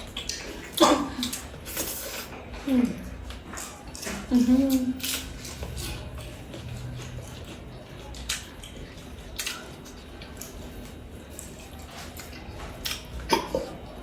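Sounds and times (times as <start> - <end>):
wet chewing mouth sounds: 0.0 - 14.0.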